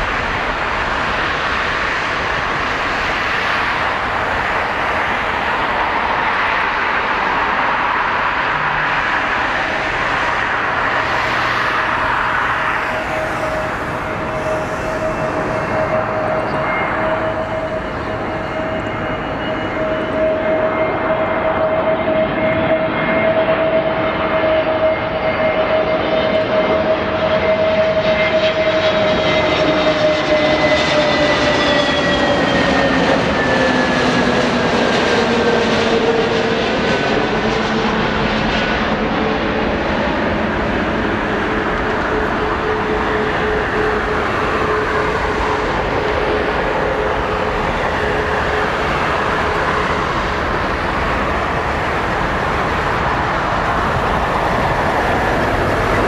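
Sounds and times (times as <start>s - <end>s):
jet airliner passing by: 0.0s - 56.0s.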